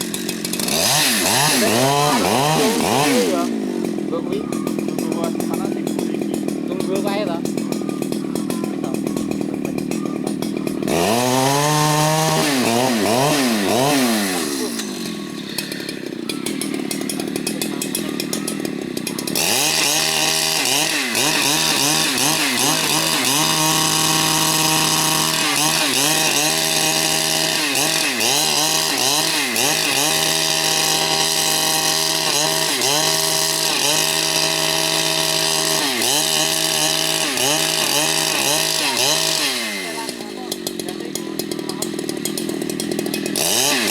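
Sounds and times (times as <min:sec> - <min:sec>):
chainsaw revving and cutting wood: 0:00.0 - 0:43.9.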